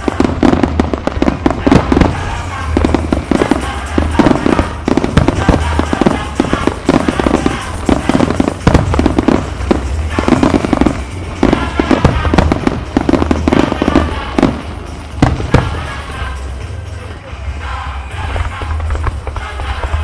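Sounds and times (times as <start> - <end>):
fireworks shells bursting: 0.0 - 20.0.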